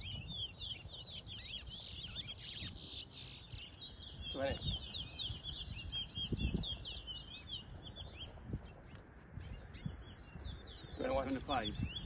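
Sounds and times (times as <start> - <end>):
finches twittering: 0.0 - 12.0.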